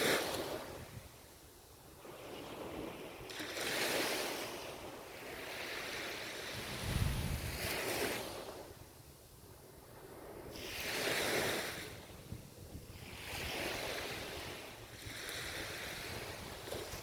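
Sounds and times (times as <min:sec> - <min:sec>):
low rumble of surf: 0:00.0 - 0:17.0
ocean surf washing ashore: 0:00.0 - 0:17.0.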